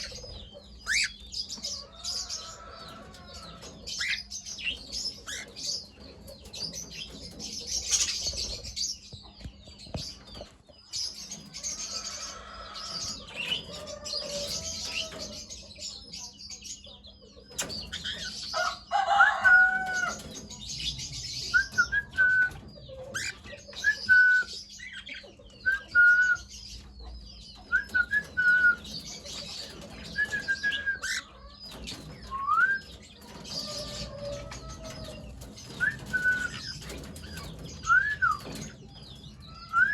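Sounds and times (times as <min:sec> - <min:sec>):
cockatiels chirping and chattering: 0:00.0 - 0:39.9.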